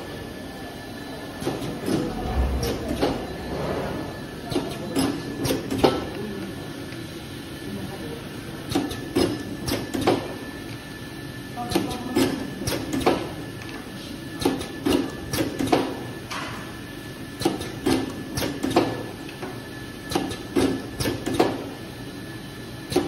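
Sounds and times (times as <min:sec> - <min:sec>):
faint machinery whine: 0:00.0 - 0:23.0.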